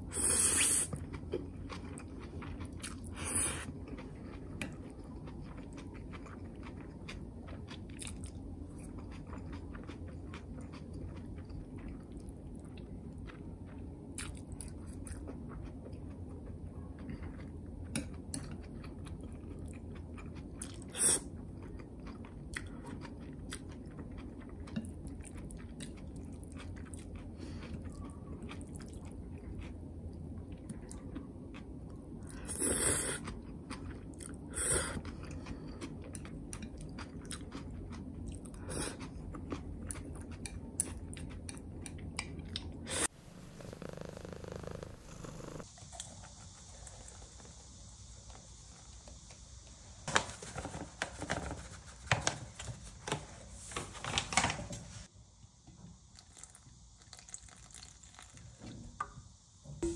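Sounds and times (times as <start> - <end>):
person chewing noodles: 0.0 - 47.5, 56.2 - 58.3
steady low hum: 0.0 - 53.8, 55.0 - 59.9.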